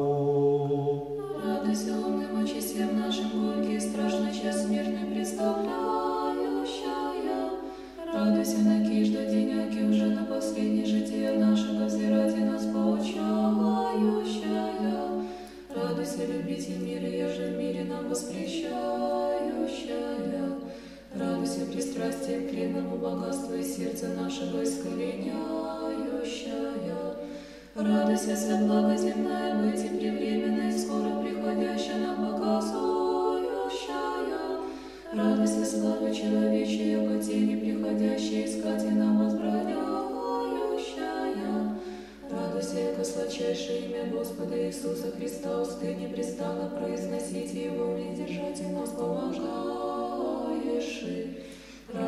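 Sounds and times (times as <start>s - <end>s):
choir singing a cappella: 0.0s - 52.0s.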